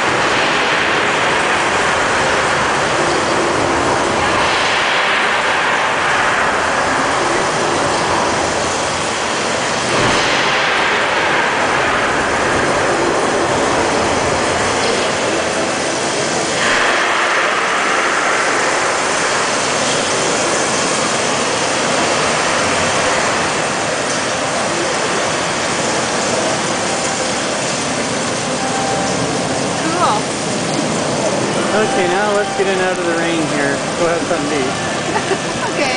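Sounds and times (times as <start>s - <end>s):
low thunder rumbles: 0.0s - 35.9s
rain pouring: 0.0s - 35.9s.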